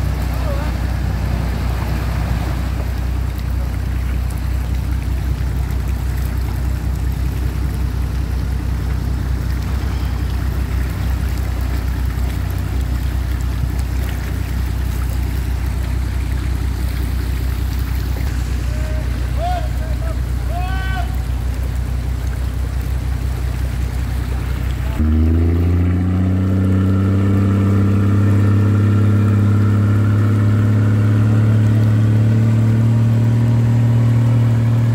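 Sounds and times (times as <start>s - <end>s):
constant noisy wash: 0.0s - 34.9s
vehicle engine humming: 0.0s - 34.9s.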